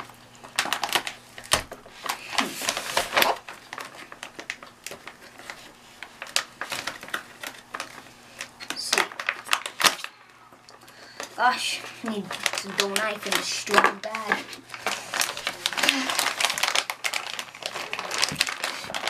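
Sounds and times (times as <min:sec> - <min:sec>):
plastic bag crinkling: 0:00.0 - 0:19.0.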